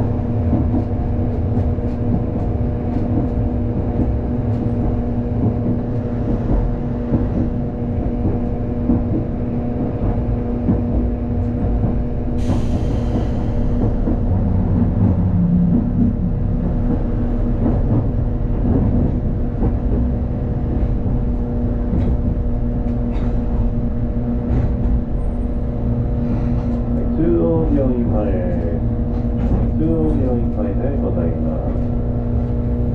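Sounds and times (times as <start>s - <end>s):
streetcar wheels rumbling on rail: 0.0s - 32.9s.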